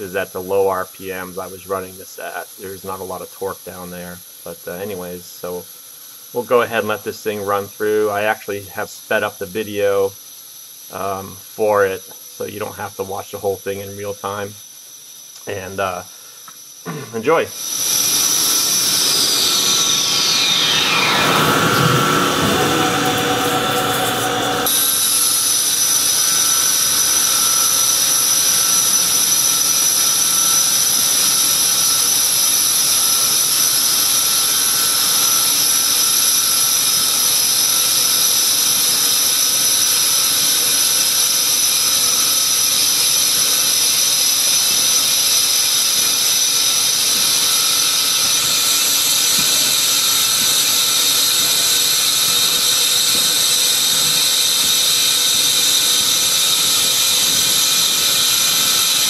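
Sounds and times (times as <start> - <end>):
high machine whine: 0.0 - 59.0.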